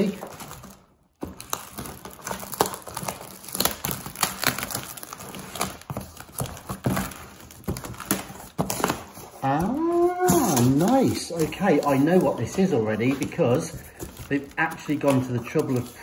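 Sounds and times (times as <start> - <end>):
cardboard flaps scraping: 0.0 - 16.0
tape and plastic wrap crinkling: 0.0 - 16.0.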